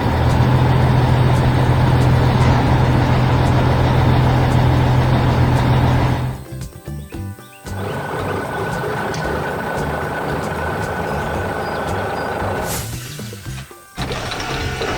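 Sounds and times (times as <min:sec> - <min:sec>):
heavy vehicle engine rumbling: 0:00.0 - 0:06.6, 0:07.7 - 0:14.9.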